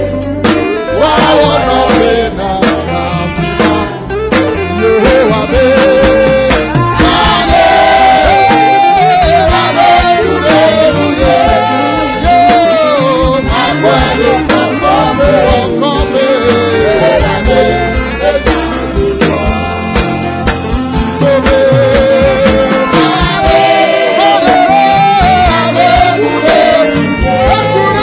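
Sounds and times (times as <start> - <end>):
gospel worship song: 0.0 - 28.0.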